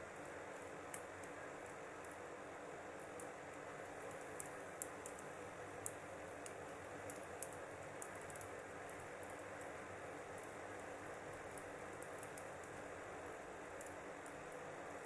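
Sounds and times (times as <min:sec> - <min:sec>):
wood fire crackling: 0:00.0 - 0:15.0
burning wood popping: 0:00.1 - 0:02.2, 0:02.9 - 0:15.0.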